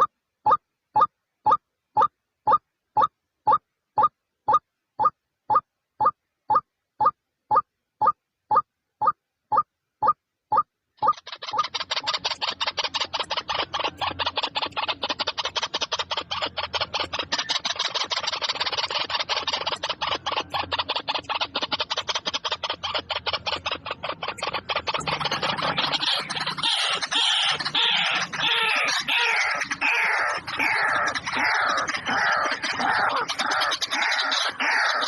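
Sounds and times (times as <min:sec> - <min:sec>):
overlapping falling bird calls: 0:00.0 - 0:35.0.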